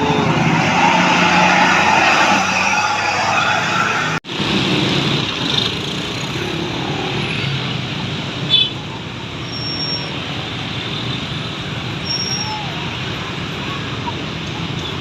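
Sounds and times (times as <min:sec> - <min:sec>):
vehicles passing: 0:00.0 - 0:15.0.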